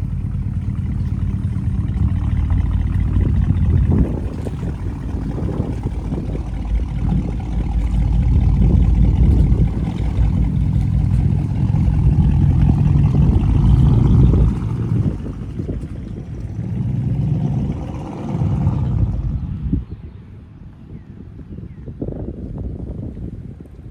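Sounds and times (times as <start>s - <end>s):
car engine running: 0.0s - 19.7s.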